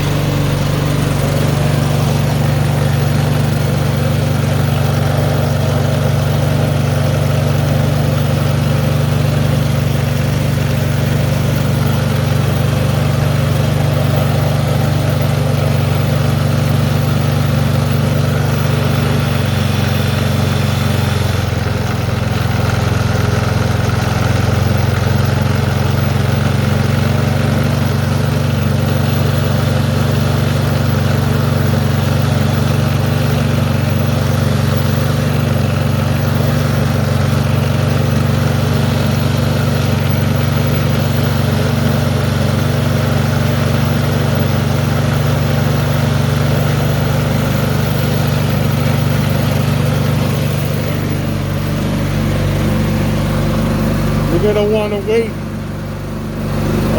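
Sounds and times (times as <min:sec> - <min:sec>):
snowblower engine idling: 0:00.0 - 0:56.9.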